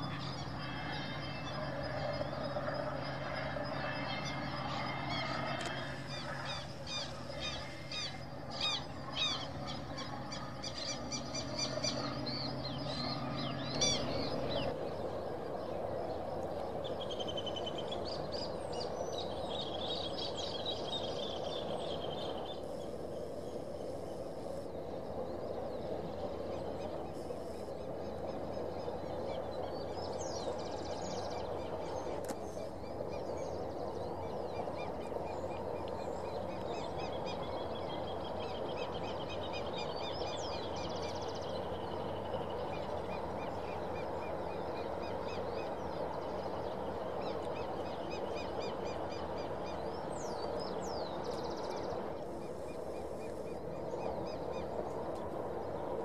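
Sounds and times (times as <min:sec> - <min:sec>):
diesel locomotive drone: 0:00.0 - 0:56.0
steady rushing hiss: 0:00.0 - 0:56.0.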